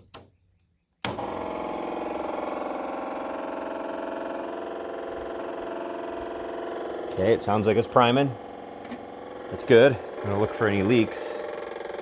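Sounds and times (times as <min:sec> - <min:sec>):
fuel pump buzzing: 0:01.0 - 0:12.0.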